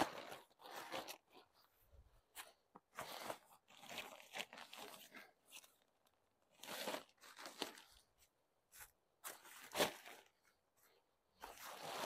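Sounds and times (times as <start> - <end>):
fabric rustling and crinkling: 0.0 - 12.0.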